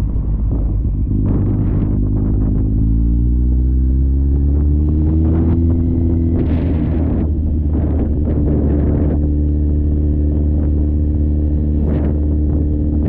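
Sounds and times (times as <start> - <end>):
engine running: 0.0 - 13.0
wind buffeting microphone: 0.0 - 13.0.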